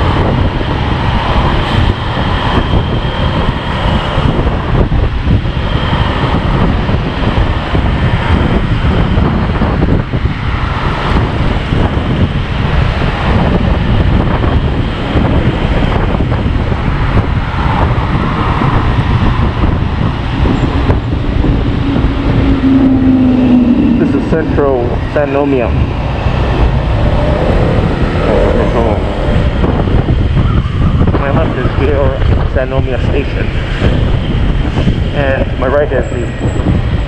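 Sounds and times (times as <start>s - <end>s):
steady hum: 0.0s - 35.4s
wind rumble on microphone: 0.0s - 37.0s.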